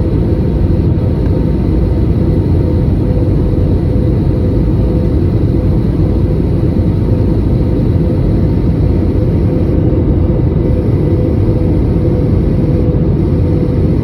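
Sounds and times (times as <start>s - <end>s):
airliner engine rumble: 0.0s - 14.0s
faint constant hum: 0.0s - 14.0s.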